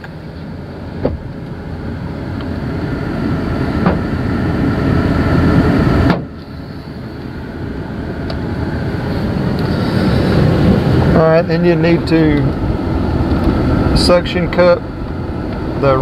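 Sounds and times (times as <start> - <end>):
low rumble of road noise: 0.0 - 16.0.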